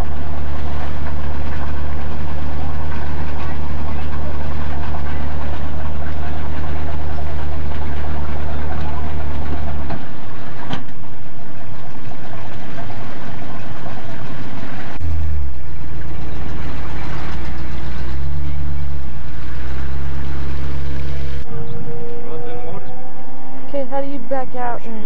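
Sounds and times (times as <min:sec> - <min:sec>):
loud low rumble: 0:00.0 - 0:25.0
truck engine idling: 0:00.0 - 0:25.0.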